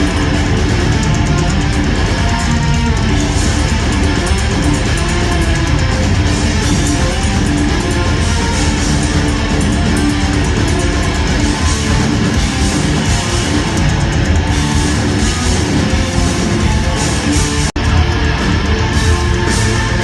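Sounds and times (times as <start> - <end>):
heavy metal music with guitars: 0.0 - 20.0.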